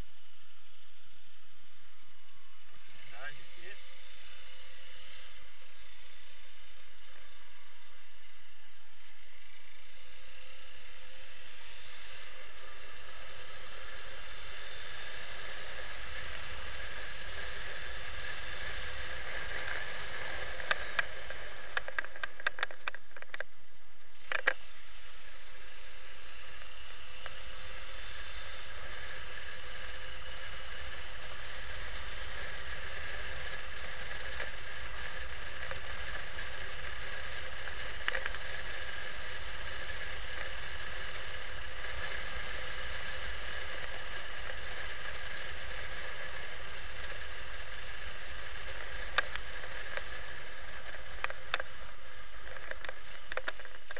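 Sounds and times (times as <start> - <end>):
motorcycle engine hum: 0.0 - 53.9
wind and road noise: 0.0 - 53.9.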